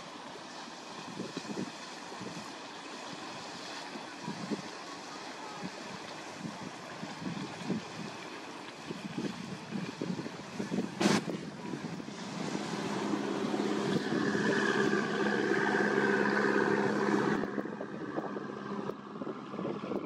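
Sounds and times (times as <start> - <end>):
boat diesel engine humming: 0.0 - 20.0.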